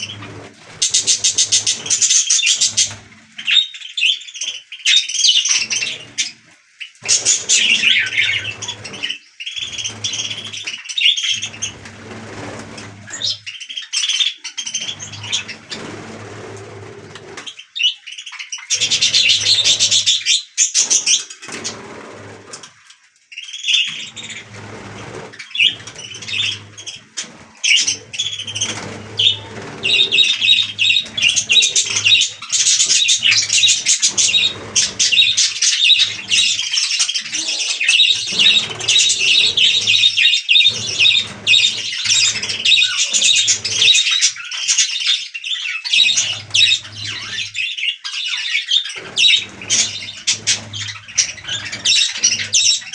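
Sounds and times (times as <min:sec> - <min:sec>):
budgerigars chattering and chirping: 0:00.0 - 0:22.4, 0:23.4 - 0:52.9.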